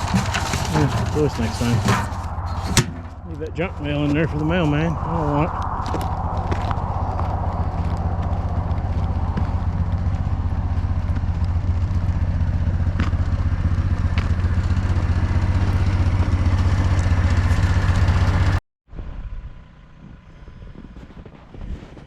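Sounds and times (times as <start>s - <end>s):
diesel engine idling: 0.0s - 18.6s
loud engine pulsing: 0.0s - 21.9s.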